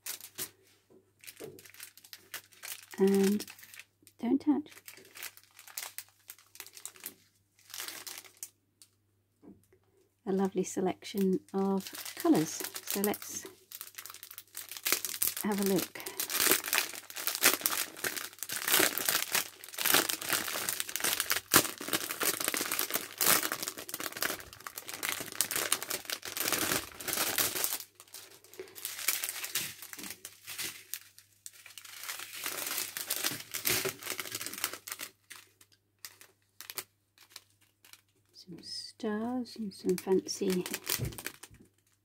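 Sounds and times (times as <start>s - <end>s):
plastic bags crinkling: 0.0s - 0.5s, 1.2s - 3.9s, 4.6s - 8.9s, 11.2s - 38.3s, 39.7s - 42.0s.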